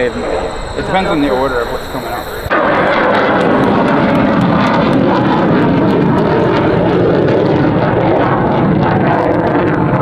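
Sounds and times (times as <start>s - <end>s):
jet engines roaring past overhead: 0.0s - 10.0s.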